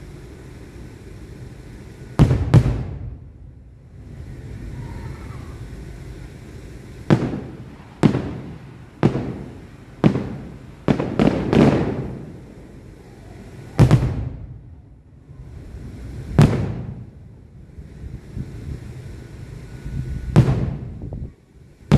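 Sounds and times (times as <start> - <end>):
fireworks booming with echo: 0.0 - 21.9.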